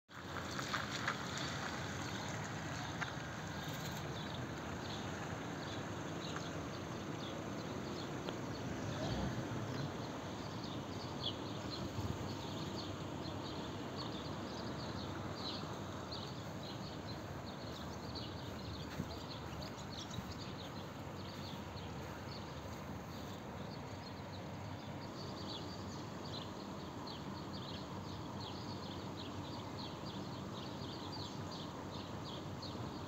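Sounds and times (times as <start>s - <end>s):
steady outdoor background noise: 0.1s - 33.0s
small birds chirping: 0.5s - 33.0s.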